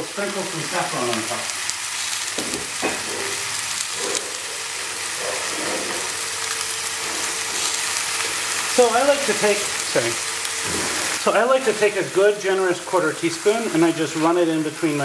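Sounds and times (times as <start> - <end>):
chicken and onions sizzling in pan: 0.0 - 15.0.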